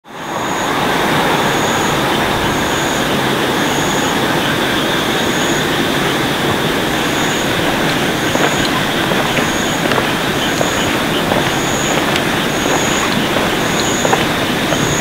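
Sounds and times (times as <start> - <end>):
train rumbling along track: 0.1 - 15.0.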